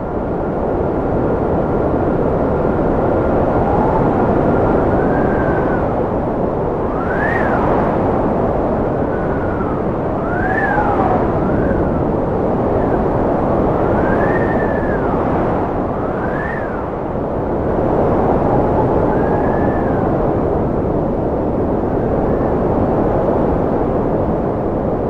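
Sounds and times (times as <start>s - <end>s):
whistling howl of wind: 0.0s - 25.0s
wind blowing hard: 0.0s - 25.0s.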